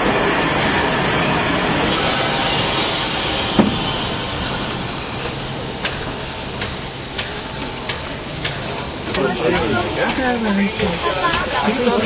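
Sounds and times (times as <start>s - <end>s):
steam hissing: 0.6s - 12.0s.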